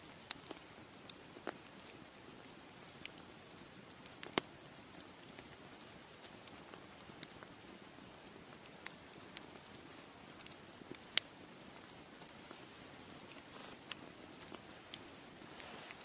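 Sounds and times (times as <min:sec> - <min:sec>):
soft steady hiss: 0:00.0 - 0:16.0
wood fire crackling: 0:00.0 - 0:16.0.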